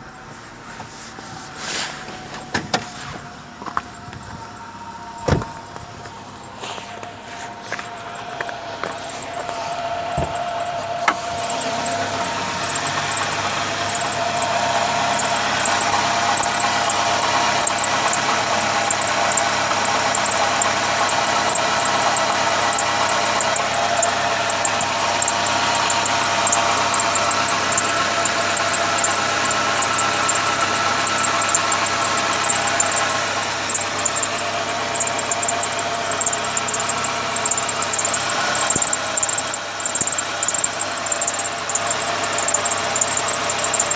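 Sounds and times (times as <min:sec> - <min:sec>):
car engine running: 0:00.0 - 0:43.9
high-pitched pulsing whistle: 0:07.8 - 0:43.9.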